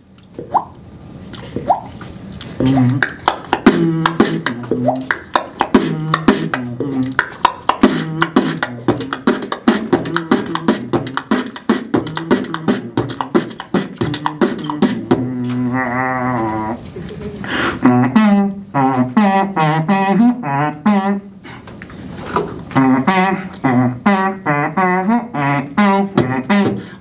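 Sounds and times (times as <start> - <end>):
beatboxing into microphone: 0.0 - 27.0
wavering vocal tone: 1.4 - 21.4, 22.6 - 27.0.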